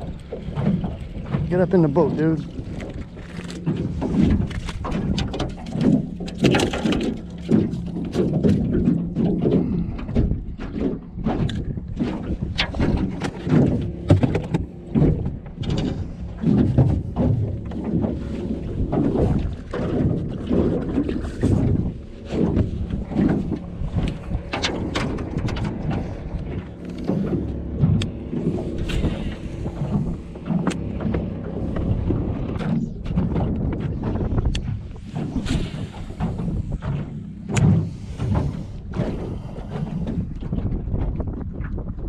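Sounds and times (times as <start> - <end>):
knocks and clicks of fishing gear: 0.0 - 41.8
waves slapping boat hull: 0.0 - 42.0
wind buffeting microphone: 0.0 - 42.0.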